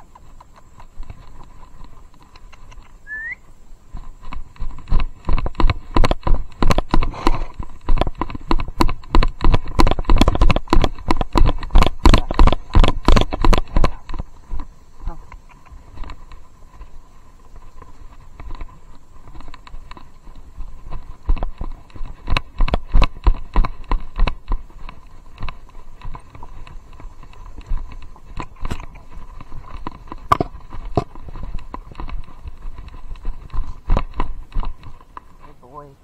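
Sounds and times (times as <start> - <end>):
horse hoof steps: 0.0 - 36.0.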